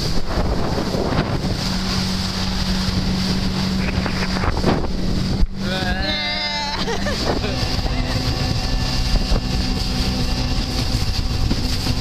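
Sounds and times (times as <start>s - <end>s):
jet ski engine drone: 0.0s - 12.0s
wind buffeting microphone: 0.0s - 12.0s.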